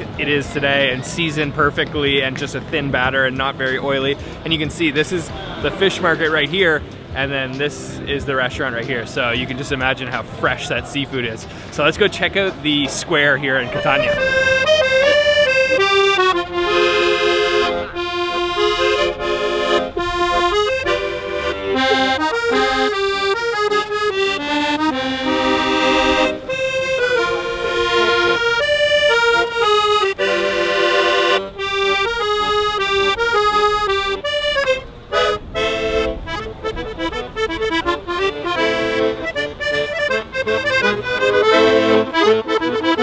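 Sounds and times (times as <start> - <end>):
accordion playing: 0.0 - 43.0.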